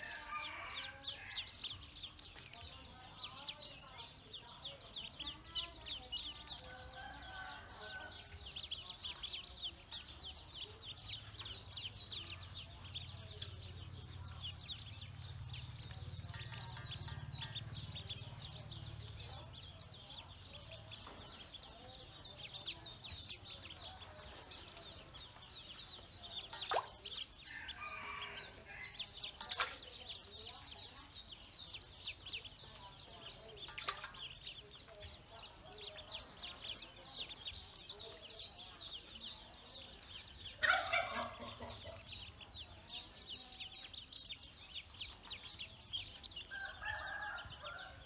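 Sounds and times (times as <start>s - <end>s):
ducklings peeping: 0.0s - 48.0s.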